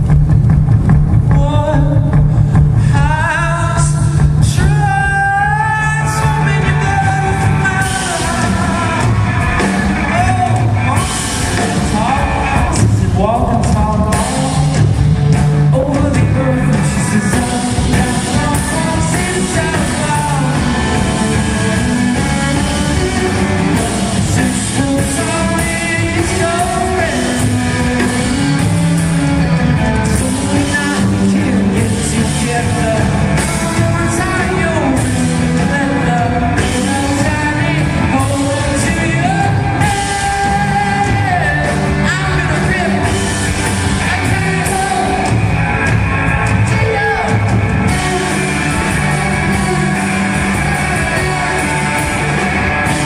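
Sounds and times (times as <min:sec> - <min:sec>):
live rock band music: 0:00.0 - 0:53.0.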